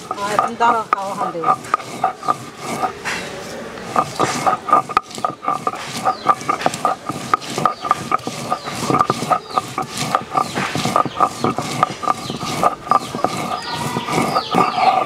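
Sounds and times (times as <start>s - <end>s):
stone roller grinding: 0.0s - 15.0s.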